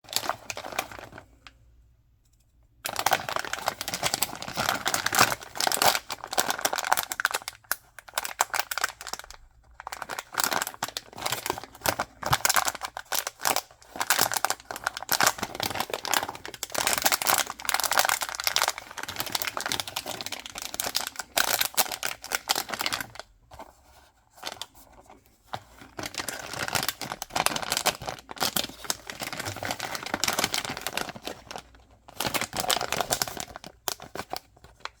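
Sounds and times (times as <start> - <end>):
packaging crinkling and tearing: 0.1 - 1.4, 2.8 - 35.0.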